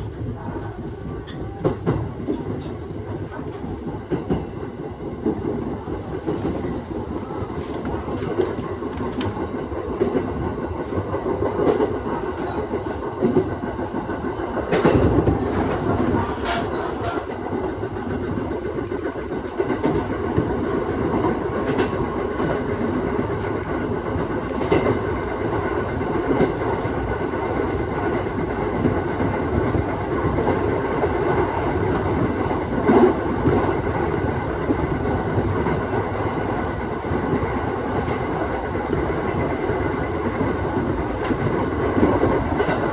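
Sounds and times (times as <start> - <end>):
train running rumble: 0.0 - 42.9.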